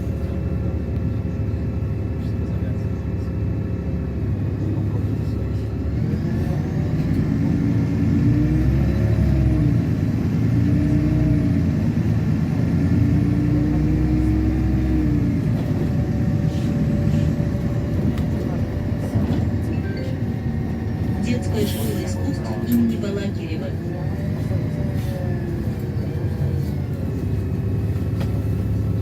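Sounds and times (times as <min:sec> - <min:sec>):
bus engine accelerating: 0:00.0 - 0:29.0
low rumble of drivetrain and road: 0:00.0 - 0:29.0.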